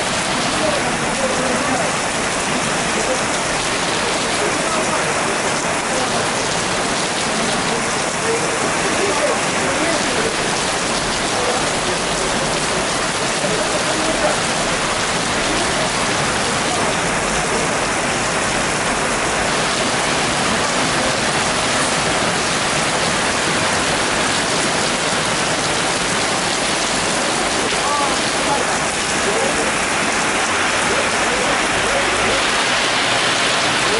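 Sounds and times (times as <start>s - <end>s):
heavy rain on pavement: 0.0s - 33.9s.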